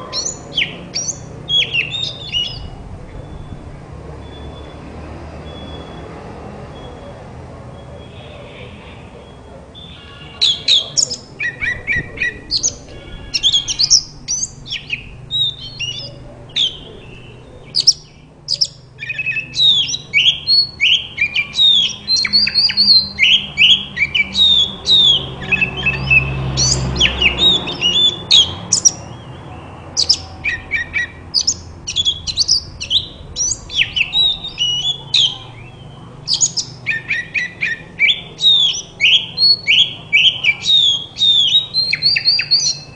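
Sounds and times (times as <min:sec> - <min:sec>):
bird singing whistles and chirps: 0:00.1 - 0:04.8, 0:05.4 - 0:06.0, 0:09.2 - 0:42.9.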